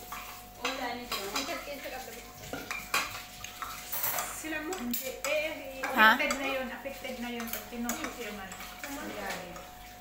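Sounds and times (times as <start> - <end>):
cutlery scraping and clinking on plates: 0.0 - 10.0.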